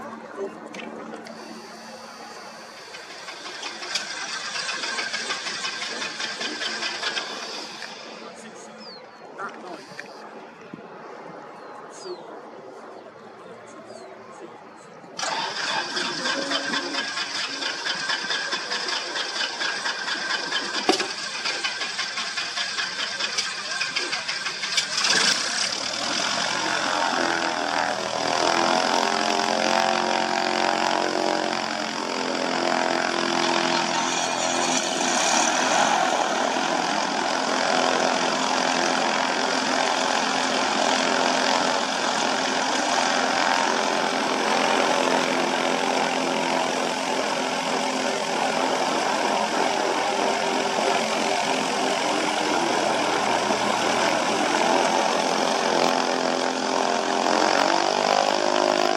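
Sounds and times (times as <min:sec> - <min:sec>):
light aircraft engine and propeller: 0:00.0 - 0:58.9.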